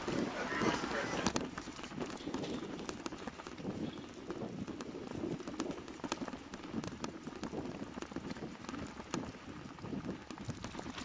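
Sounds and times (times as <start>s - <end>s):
bicycle clicks and rattles: 0.0s - 11.0s
bicycle tyres crunching: 0.0s - 11.0s.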